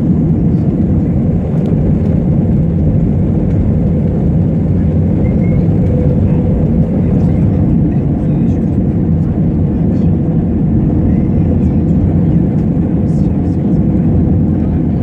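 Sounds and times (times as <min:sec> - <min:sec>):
jet engine and airflow rumble: 0:00.0 - 0:15.0.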